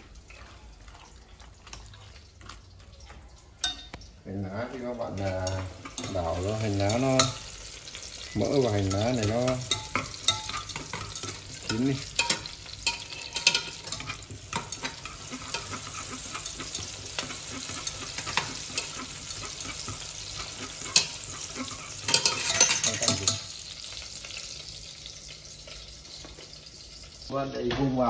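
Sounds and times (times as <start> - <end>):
scallions sizzling in hot fat: 2.2 - 27.6.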